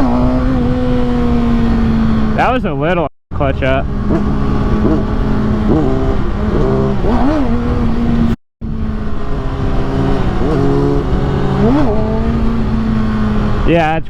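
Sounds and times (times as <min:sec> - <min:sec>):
motorcycle engine revving: 0:00.0 - 0:14.0
wind rushing over microphone: 0:00.0 - 0:14.0.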